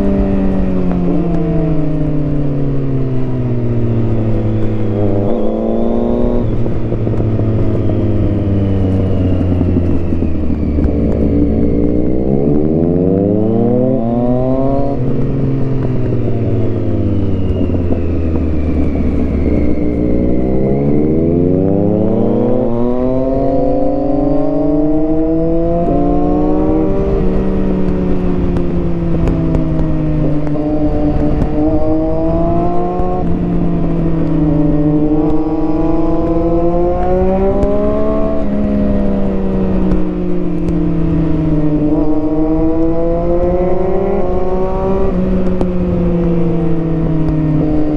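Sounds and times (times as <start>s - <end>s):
motorcycle engine revving: 0.0s - 47.9s
wind rush: 0.0s - 47.9s.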